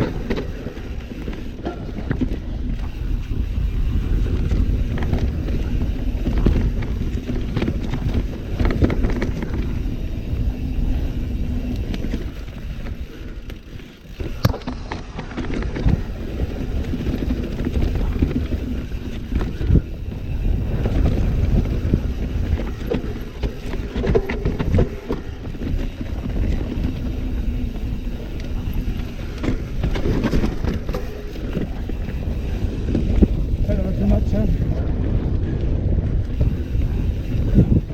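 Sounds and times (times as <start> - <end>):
bike rattling and knocking: 0.0 - 37.9
wind buffeting microphone: 0.0 - 37.9.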